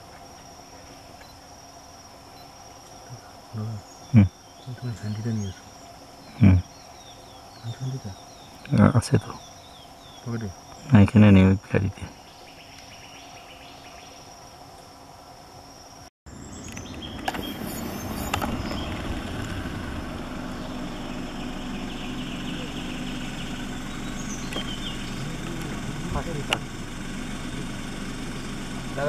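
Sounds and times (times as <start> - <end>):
low hum and hiss: 0.0 - 29.0.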